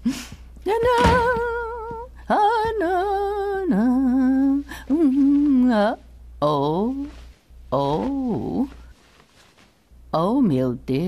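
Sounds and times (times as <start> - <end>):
woman humming: 0.0 - 8.9.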